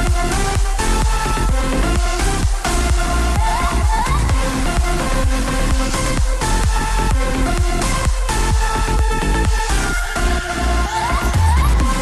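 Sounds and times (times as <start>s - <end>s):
heavy kick drum: 0.0s - 10.4s, 11.3s - 12.0s
electronic dance music: 0.0s - 12.0s.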